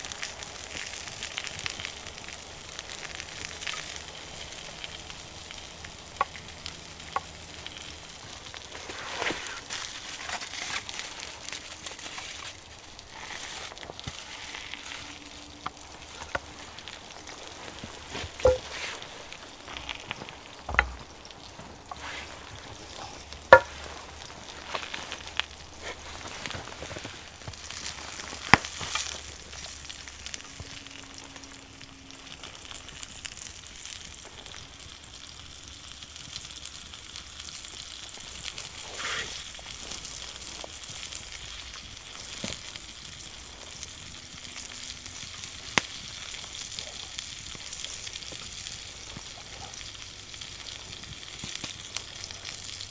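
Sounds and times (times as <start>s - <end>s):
steak sizzling over fire: 0.0s - 52.9s
fire pops: 0.1s - 30.9s, 37.6s - 52.9s.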